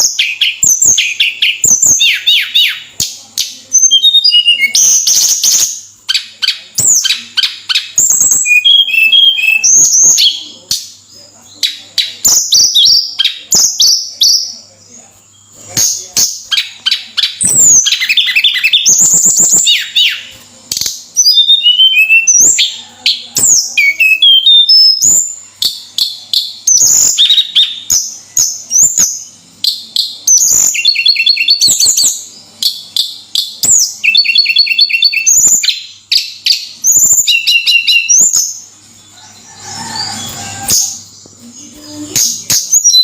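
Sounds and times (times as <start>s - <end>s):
songbird singing: 0.0s - 43.0s.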